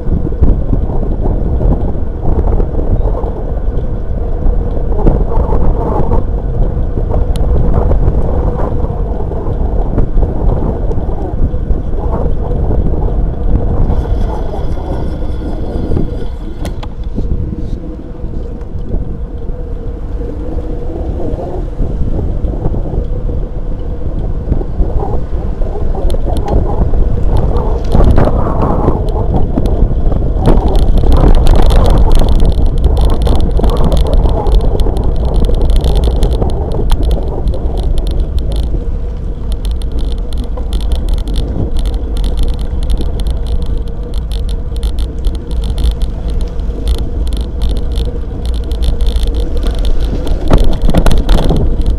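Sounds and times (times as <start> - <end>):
bicycle tyre noise on asphalt: 0.0 - 51.9
bike clicks and rattles: 0.0 - 51.9
wind rumble on microphone: 0.0 - 51.9.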